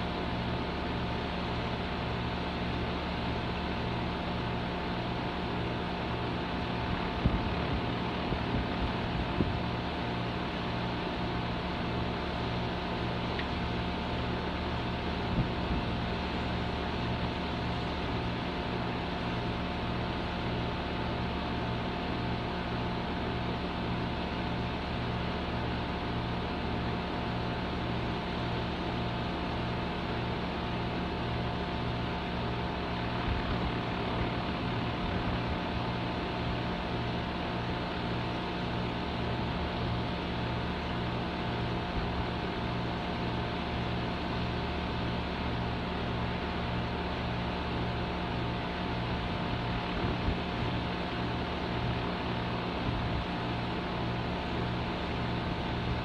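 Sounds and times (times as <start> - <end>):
compressor humming: 0.0 - 56.0.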